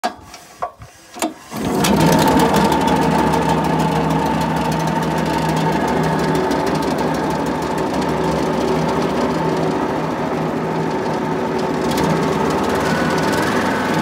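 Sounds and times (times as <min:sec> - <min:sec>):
recoil starter pull: 0:01.1 - 0:09.8, 0:10.8 - 0:14.0
saw engine running fast: 0:01.7 - 0:14.0.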